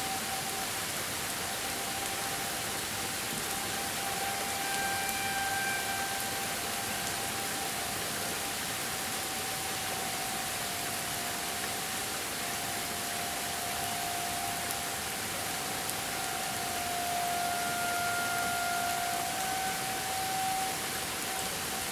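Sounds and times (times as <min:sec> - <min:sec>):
distant warning sirens: 0:00.0 - 0:21.9
steady hiss: 0:00.0 - 0:21.9.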